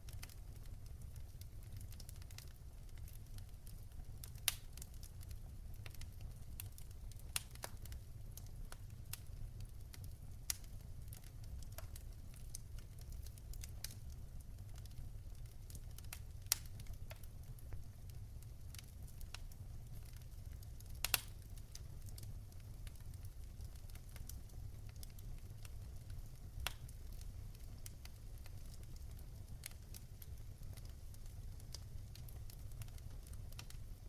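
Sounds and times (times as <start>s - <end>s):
fire crackling in a fireplace: 0.0s - 34.0s.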